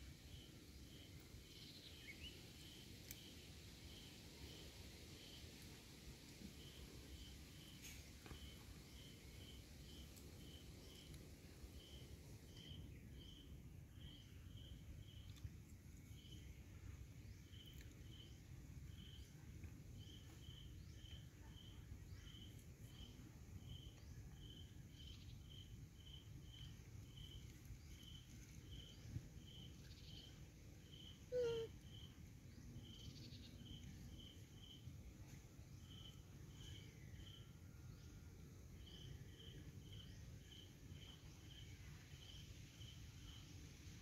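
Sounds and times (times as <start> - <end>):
high insect-like chirp: 0.0 - 44.0.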